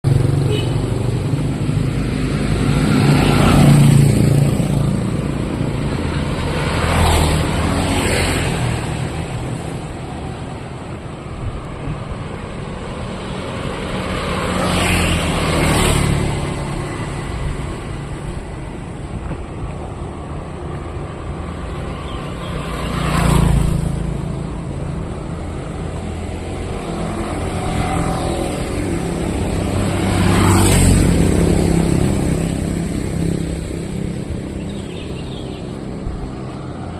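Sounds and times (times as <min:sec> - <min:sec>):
vehicles passing: 0:00.0 - 0:36.9.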